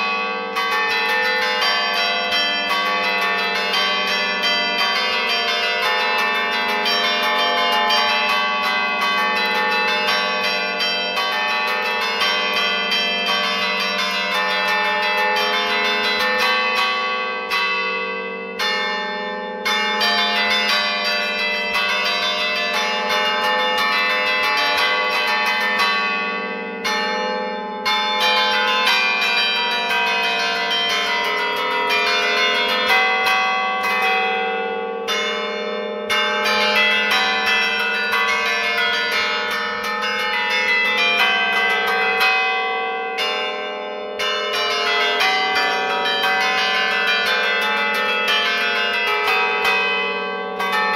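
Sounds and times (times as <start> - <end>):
church bells playing a tune: 0.0 - 50.9.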